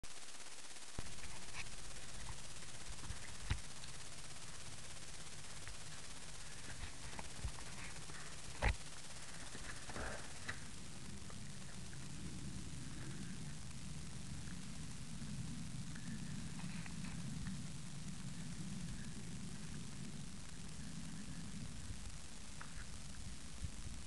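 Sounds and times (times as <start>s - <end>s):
microphone hiss: 0.0s - 24.0s.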